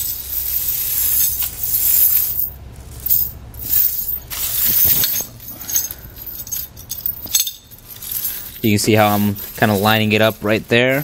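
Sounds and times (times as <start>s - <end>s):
tire chains scraping on floor: 0.0s - 11.0s.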